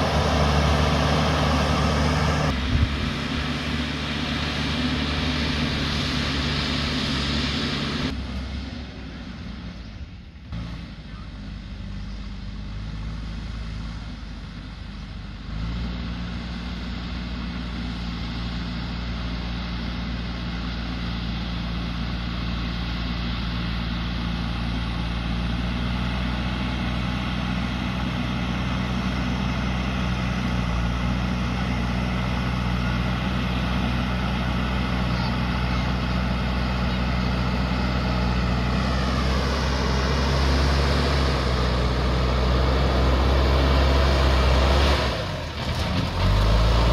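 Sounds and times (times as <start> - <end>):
backhoe diesel engine running: 0.0 - 46.9.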